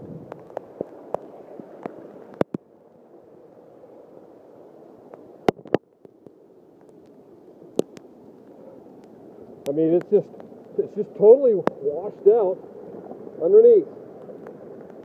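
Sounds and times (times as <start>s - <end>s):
heavy rain and water runoff: 0.0s - 15.0s.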